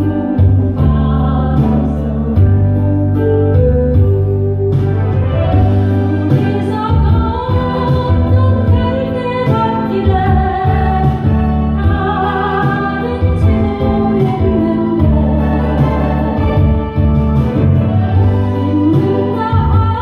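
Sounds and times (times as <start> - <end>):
person singing a slow ballad: 0.0 - 4.8, 5.7 - 20.0
instrumental accompaniment: 0.0 - 20.0.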